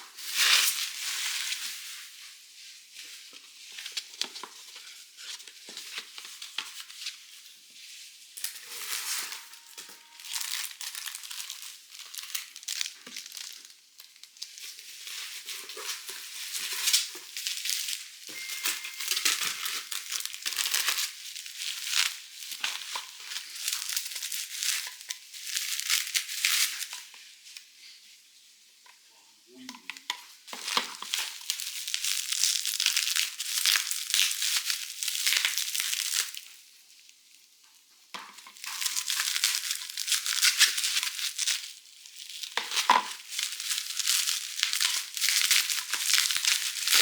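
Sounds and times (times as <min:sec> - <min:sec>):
packaging crinkling and rustling: 0:00.0 - 0:27.7, 0:30.2 - 0:37.1, 0:38.2 - 0:47.0.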